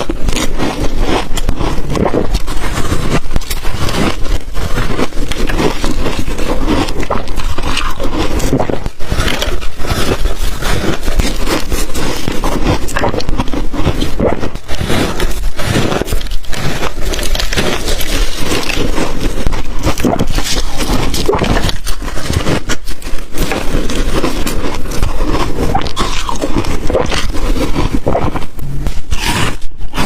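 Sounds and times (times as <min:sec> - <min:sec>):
ice being chewed: 0:00.0 - 0:30.0.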